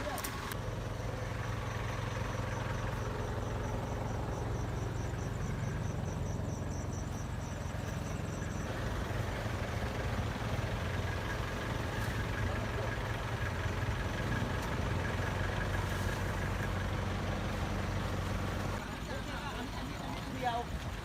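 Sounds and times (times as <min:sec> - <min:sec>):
low engine hum: 0:00.0 - 0:21.0
insect chirping in fast pulses: 0:00.5 - 0:19.1.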